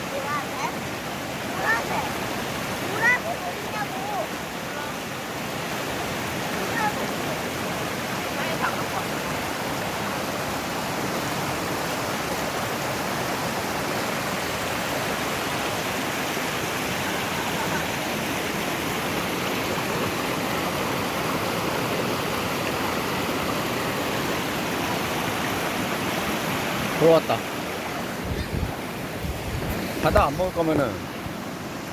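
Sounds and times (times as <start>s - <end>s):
stream rushing: 0.0s - 31.9s.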